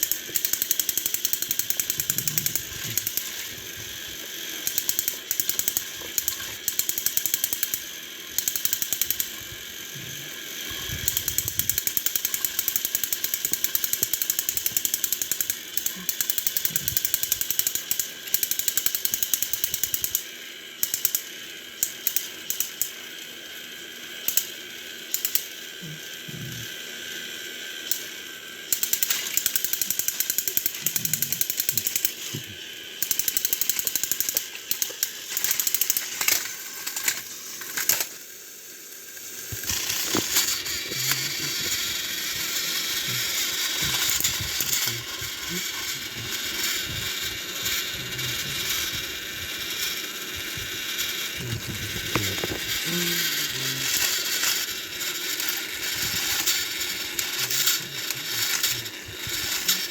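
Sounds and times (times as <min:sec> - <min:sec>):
toy train motors clicking: 0:00.0 - 0:59.9.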